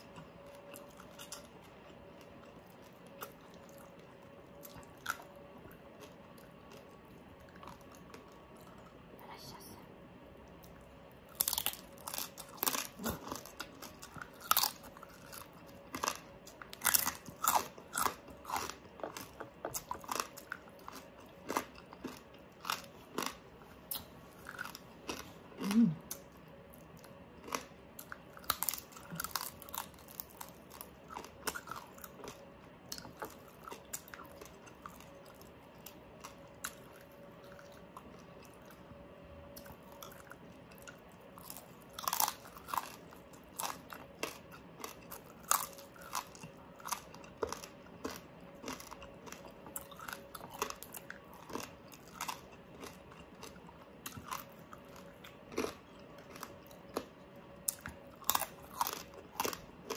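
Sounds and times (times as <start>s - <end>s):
chewing crispy pork: 0.0s - 9.2s, 10.3s - 59.9s.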